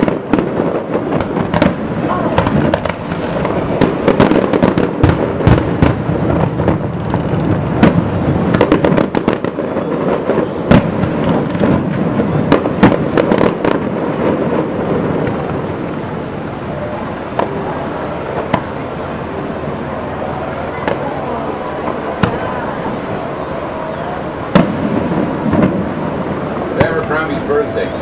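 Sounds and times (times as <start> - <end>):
continuous rumble: 0.0 - 28.0
fireworks bangs and crackles: 0.0 - 28.0.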